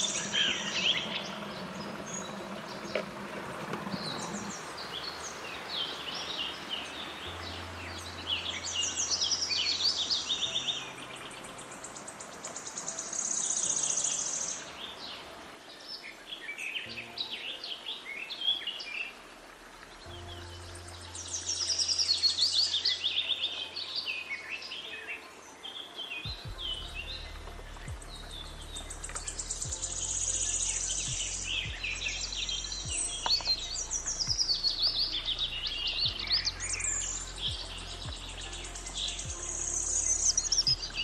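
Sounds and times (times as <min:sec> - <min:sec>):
birds singing and chirping: 0:00.0 - 0:41.0.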